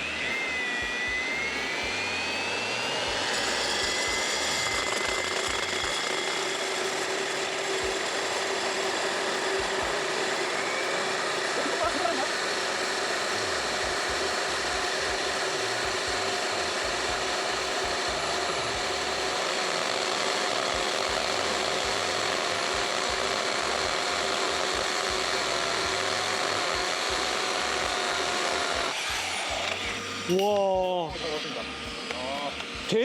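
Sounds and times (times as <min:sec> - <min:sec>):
core drill boring into concrete: 0:00.0 - 0:33.0.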